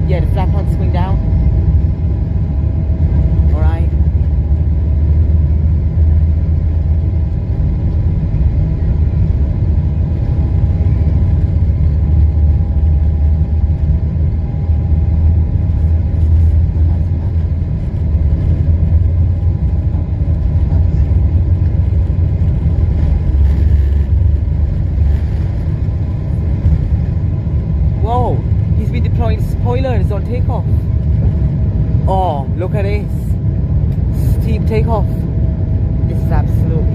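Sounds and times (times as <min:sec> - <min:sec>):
faint engine whine: 0:00.0 - 0:36.9
jet engine rumble in cabin: 0:00.0 - 0:36.9.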